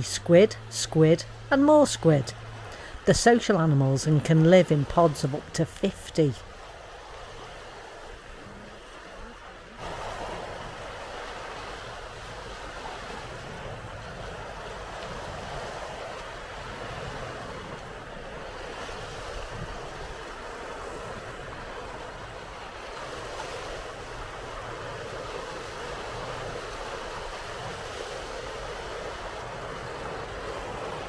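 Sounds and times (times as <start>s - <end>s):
sea waves washing: 0.0s - 31.0s
wind blowing: 0.0s - 31.0s.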